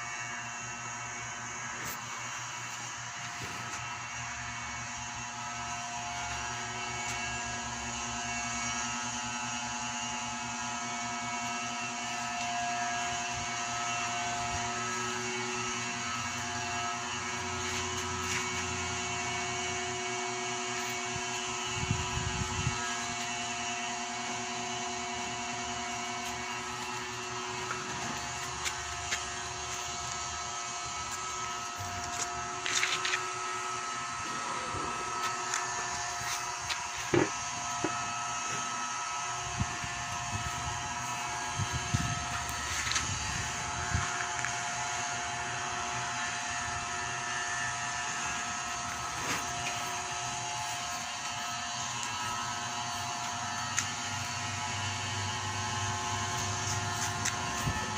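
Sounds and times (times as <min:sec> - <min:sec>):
mechanical hum with fixed tones: 0:00.0 - 0:57.9.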